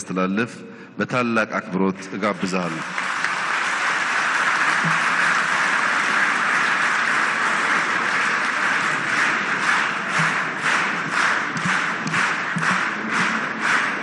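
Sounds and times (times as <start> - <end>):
large crowd applauding: 1.9 - 14.0.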